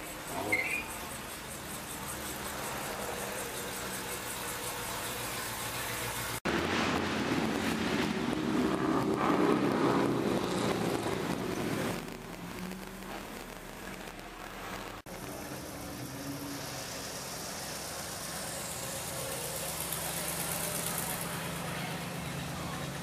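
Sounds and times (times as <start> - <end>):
pickup engine passing close: 0.0 - 12.8, 14.8 - 23.0
cars driving slowly past: 0.0 - 23.0.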